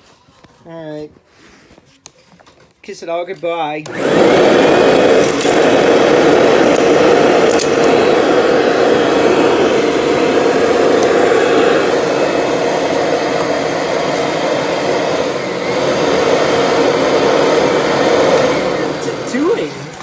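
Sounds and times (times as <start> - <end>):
vacuum cleaner motor droning: 3.8 - 20.0.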